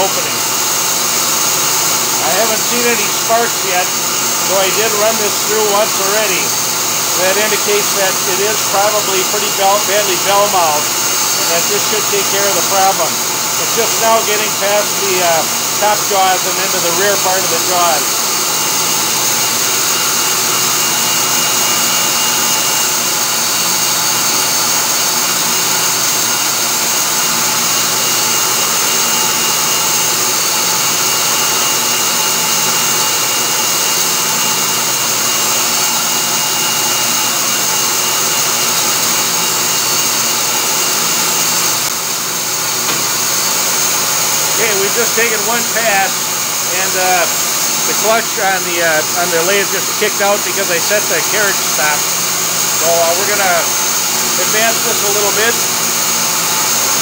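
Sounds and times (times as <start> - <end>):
motor noise with high-pitched whine: 0.0 - 57.0.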